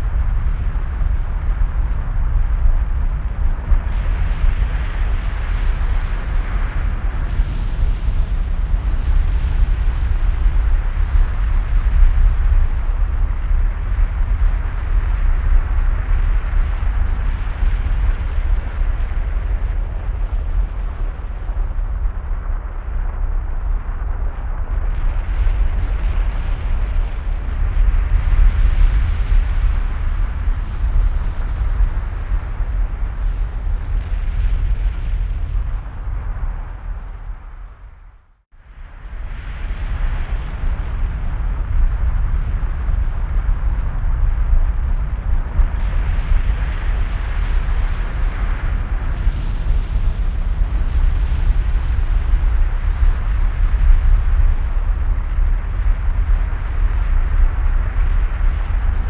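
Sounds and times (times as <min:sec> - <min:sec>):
deep roar of lava fountain: 0:00.0 - 0:59.0.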